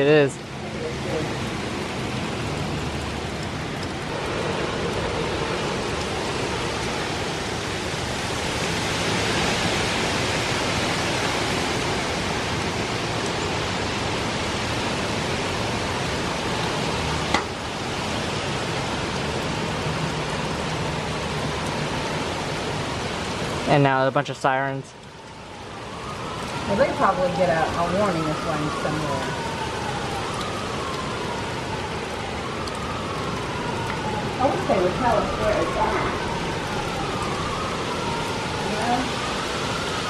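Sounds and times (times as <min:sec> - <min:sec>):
heavy rain: 0:00.0 - 0:40.0
hurricane wind: 0:00.0 - 0:40.0.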